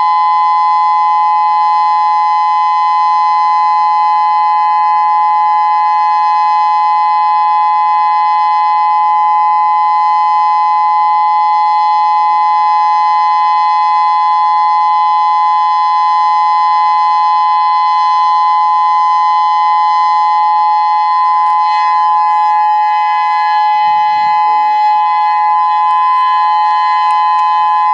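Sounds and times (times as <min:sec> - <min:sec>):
outdoor warning siren steady tone: 0:00.0 - 0:27.9.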